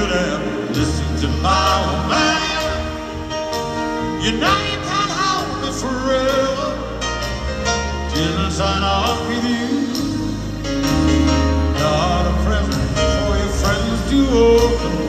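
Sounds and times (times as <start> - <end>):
man singing: 0.0 - 3.0, 4.0 - 7.1, 8.0 - 11.0, 11.6 - 15.0
live band playing: 0.0 - 15.0.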